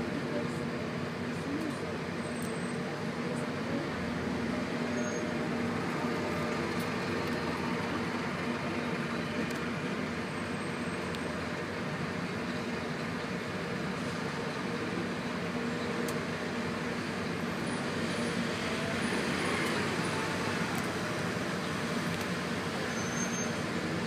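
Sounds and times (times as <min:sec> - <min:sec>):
idling car engines drone: 0:00.0 - 0:24.0.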